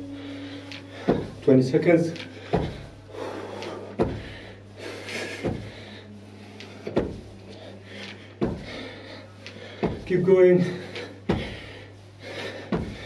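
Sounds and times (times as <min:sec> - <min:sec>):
hard breathing: 0:00.0 - 0:13.0.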